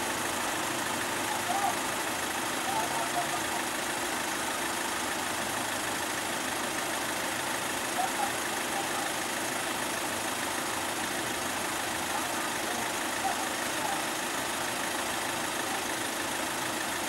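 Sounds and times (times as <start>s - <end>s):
cars idling in traffic: 0.0s - 17.0s.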